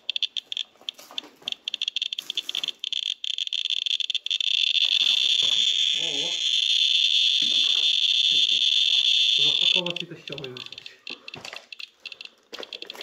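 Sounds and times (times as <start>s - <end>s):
geiger counter chirping: 0.0s - 13.0s.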